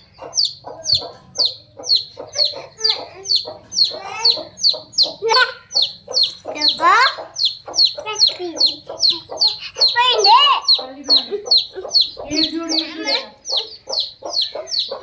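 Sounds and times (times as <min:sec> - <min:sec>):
chick peeping: 0:00.0 - 0:15.0
chicken calls: 0:00.0 - 0:15.0.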